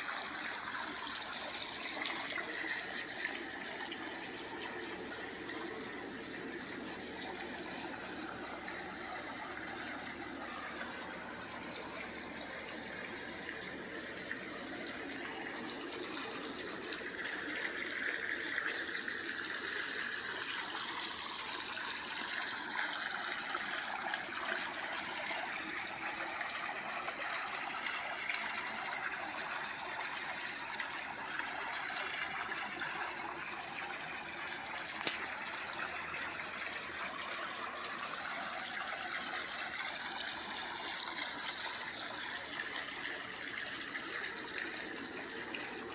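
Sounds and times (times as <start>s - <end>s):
pool water splashing and trickling: 0.0s - 45.9s.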